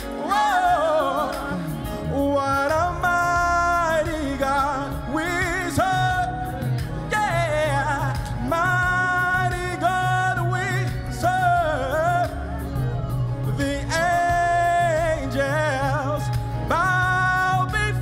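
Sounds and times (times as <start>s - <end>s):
backing singers: 0.0s - 18.0s
band playing: 0.0s - 18.0s
person singing gospel: 0.0s - 18.0s.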